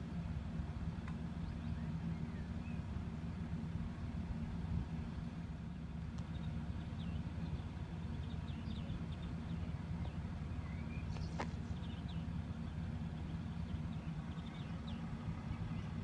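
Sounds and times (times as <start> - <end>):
low engine hum: 0.0 - 16.0
small birds chirping: 0.9 - 3.7, 4.3 - 16.0.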